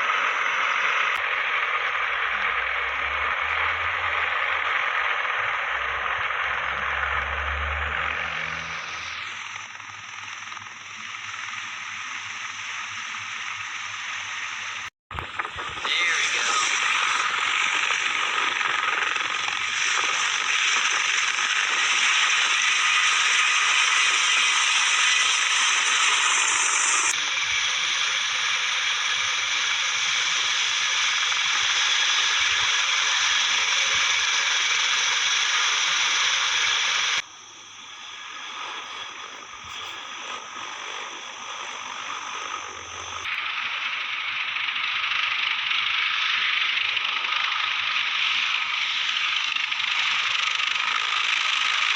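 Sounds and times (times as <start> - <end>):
helicopter rotor and turbine roar: 0.0 - 51.9.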